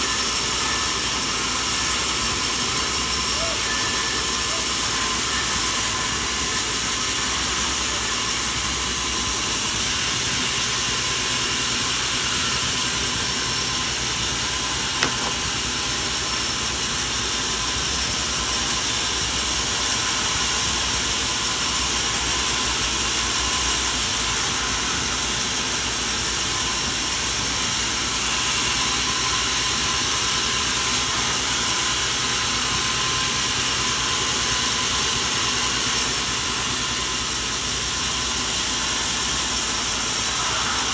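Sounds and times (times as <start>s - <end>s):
machinery hissing: 0.0s - 40.9s.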